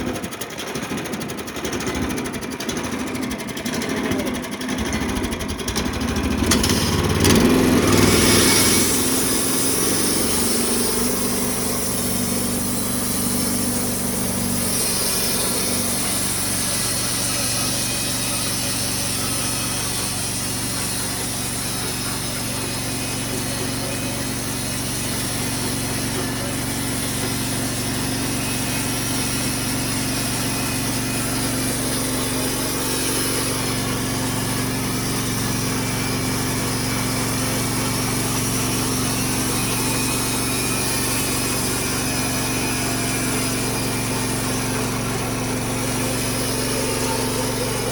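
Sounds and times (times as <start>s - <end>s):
sawmill cutting log: 0.0s - 47.9s.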